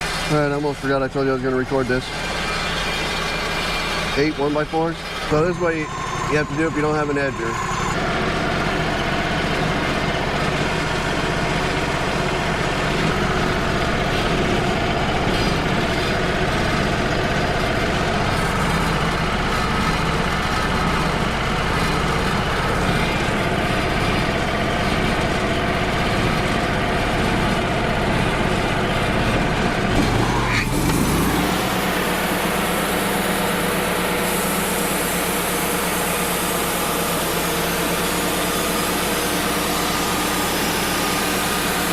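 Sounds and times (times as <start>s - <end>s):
portable sawmill running: 0.0s - 41.9s.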